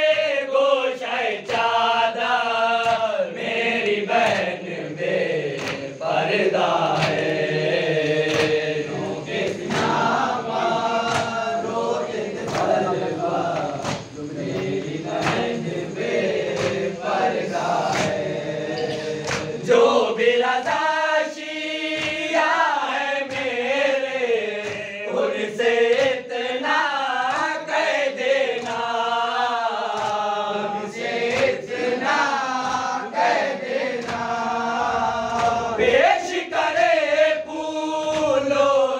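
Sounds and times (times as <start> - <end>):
men chanting lament in unison: 0.0 - 38.9.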